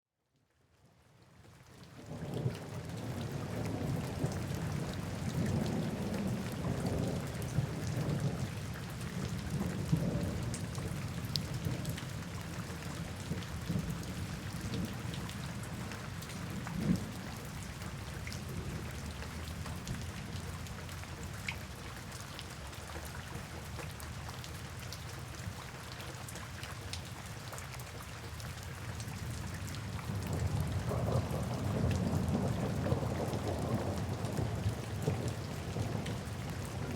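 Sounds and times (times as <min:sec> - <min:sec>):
rain drops ticking: 0:01.2 - 0:36.9.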